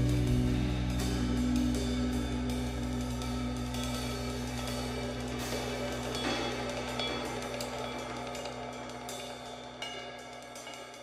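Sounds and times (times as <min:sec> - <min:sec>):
music with drums and cymbals: 0:00.0 - 0:11.0.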